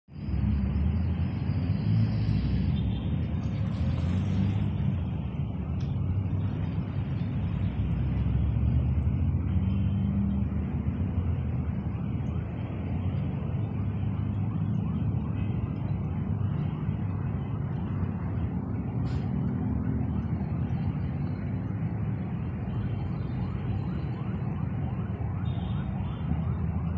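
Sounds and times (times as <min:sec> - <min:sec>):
low outdoor rumble: 0:00.1 - 0:26.9.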